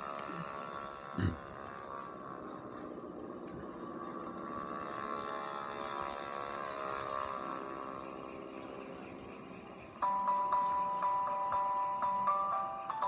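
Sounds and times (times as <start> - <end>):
animated video soundtrack drone: 0.0 - 13.0.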